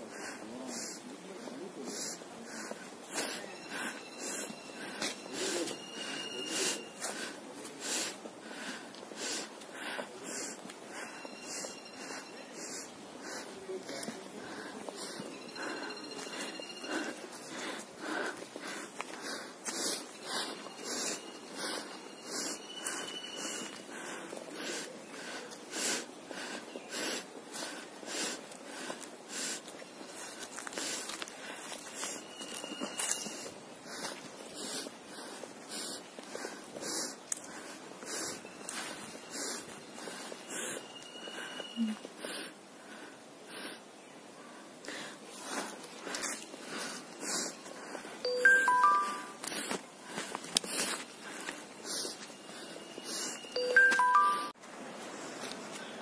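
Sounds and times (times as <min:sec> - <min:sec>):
person panting heavily: 0:00.0 - 0:43.9, 0:44.8 - 0:48.2, 0:49.3 - 0:53.5.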